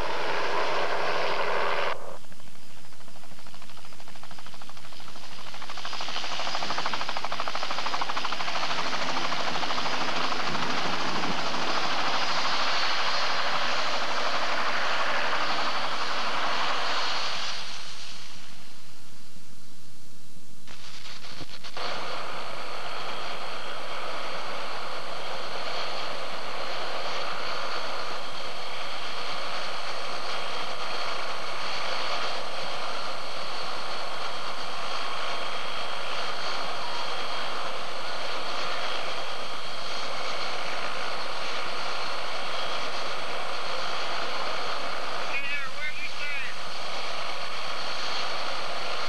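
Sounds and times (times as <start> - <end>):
helicopter turbine engine running: 0.0 - 19.5, 20.7 - 49.0.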